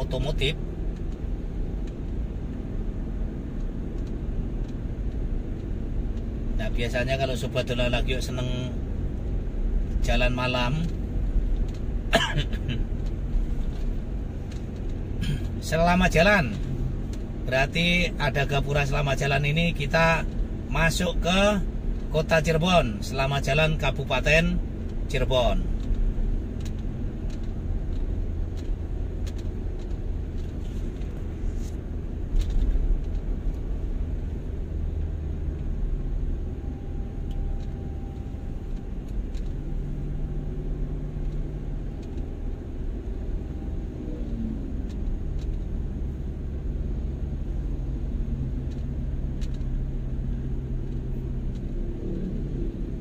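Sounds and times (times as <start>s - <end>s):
vehicle engine and tyres rumbling: 0.0s - 53.0s.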